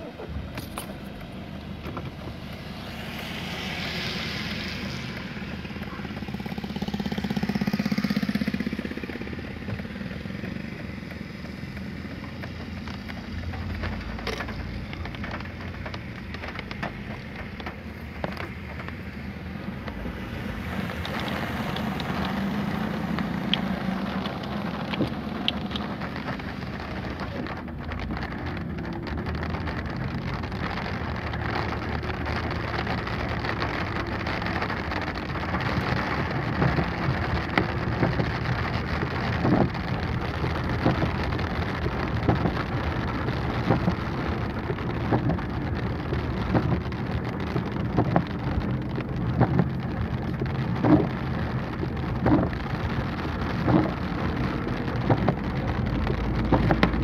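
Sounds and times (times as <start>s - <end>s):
heavy rain on car roof: 0.0s - 57.0s
moving car rumble: 0.0s - 57.0s.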